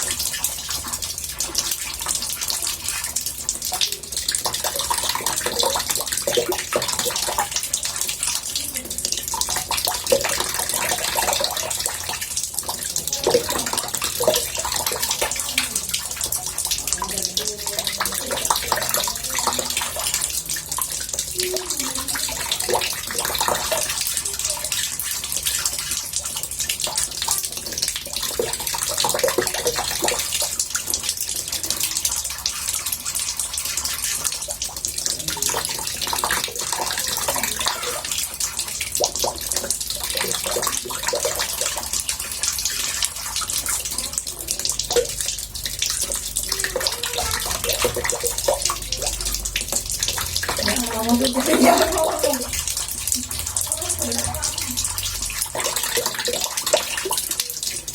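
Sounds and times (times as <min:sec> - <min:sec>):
water running into a bathtub: 0:00.0 - 0:57.9.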